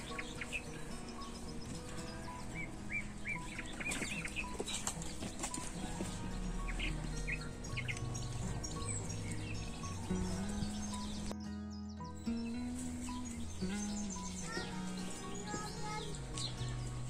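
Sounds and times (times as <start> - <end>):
background music with low notes: 0.0 - 17.0
birds chirping: 0.0 - 17.0.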